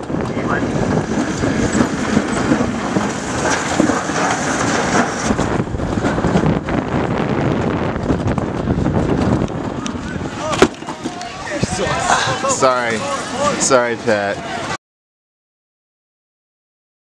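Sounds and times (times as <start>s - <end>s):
sled rattling on metal chute: 0.0s - 14.8s
wind noise on microphone: 0.0s - 14.8s.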